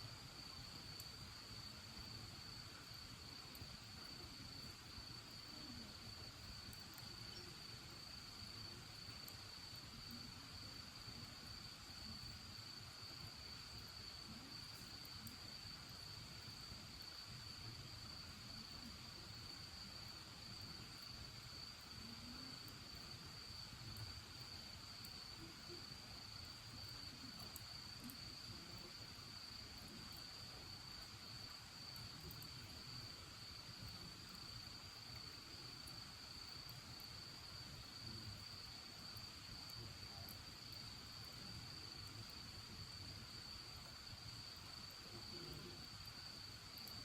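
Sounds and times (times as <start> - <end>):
cricket trilling: 0.4 - 10.8, 11.4 - 47.0
bonfire crackles: 0.4 - 47.0.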